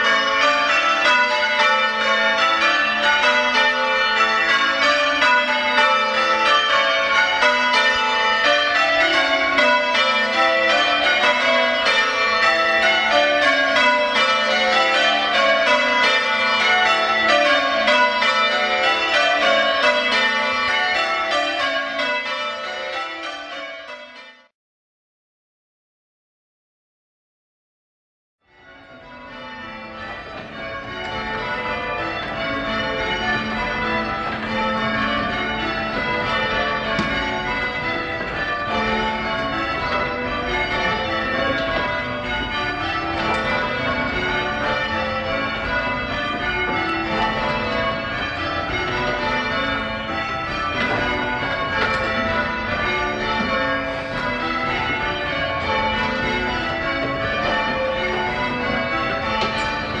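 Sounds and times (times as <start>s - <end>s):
church bells change ringing: 0.0s - 24.5s, 28.4s - 60.0s.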